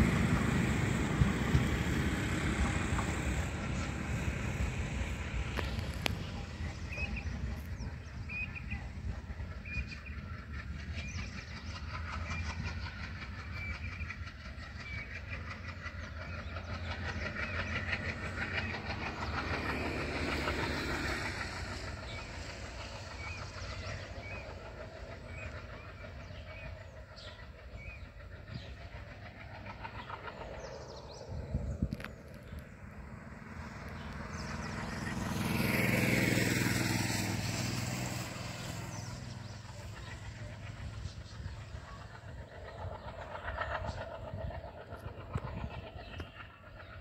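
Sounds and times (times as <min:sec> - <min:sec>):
train coaches rumbling on rails: 0:00.0 - 0:47.0.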